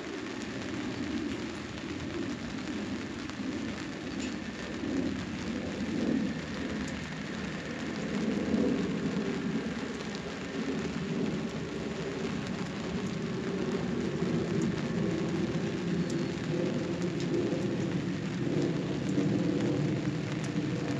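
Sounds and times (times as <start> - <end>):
steady rain: 0.0 - 20.9
low rumble: 0.2 - 20.9.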